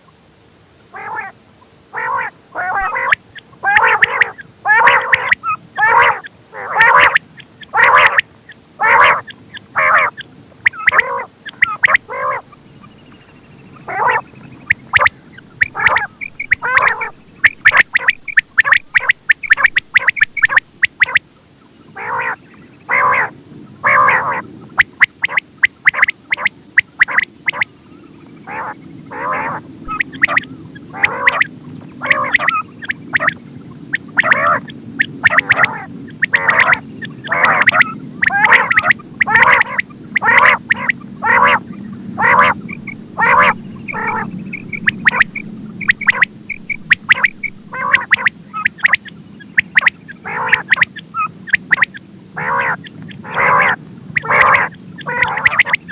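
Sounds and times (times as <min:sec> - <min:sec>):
faint low hum: 0:00.0 - 0:55.9
quail calling: 0:00.9 - 0:21.3, 0:22.0 - 0:55.9.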